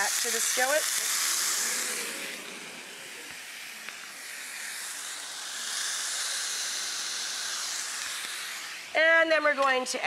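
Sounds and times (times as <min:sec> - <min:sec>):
juice sizzling in hot oil: 0:00.0 - 0:09.0.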